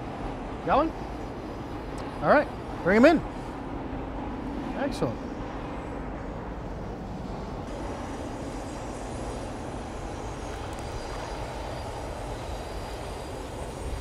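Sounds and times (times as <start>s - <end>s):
low rumble and hiss: 0.0s - 14.0s.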